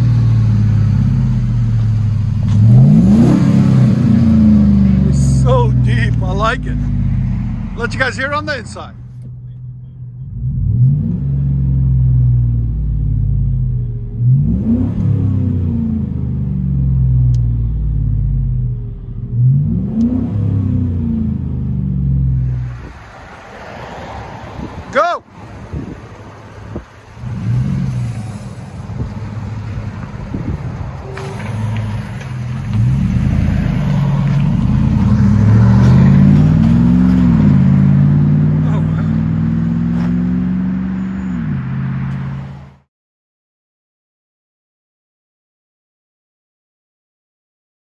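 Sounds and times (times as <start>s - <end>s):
truck engine idling and revving: 0.0s - 42.9s.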